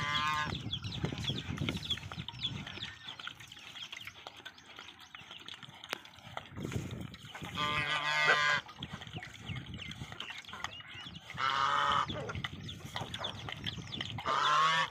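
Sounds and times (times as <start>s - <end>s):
farm animal calling: 0.0s - 14.9s
horse lapping water: 0.0s - 14.9s.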